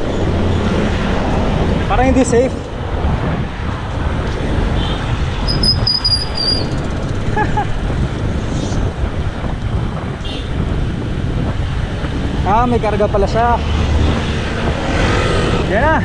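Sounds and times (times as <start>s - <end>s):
road traffic noise: 0.0s - 16.0s
wind rushing over microphone: 0.0s - 16.0s.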